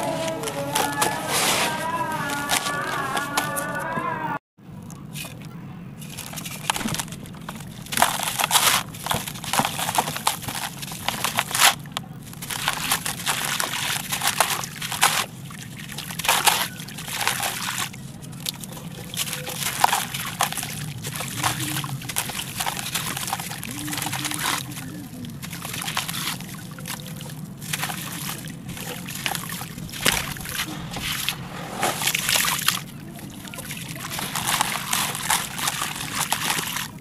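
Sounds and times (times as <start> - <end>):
gritty concrete crunching: 0.0 - 4.2, 6.0 - 37.0
water sloshing and dribbling: 0.0 - 37.0.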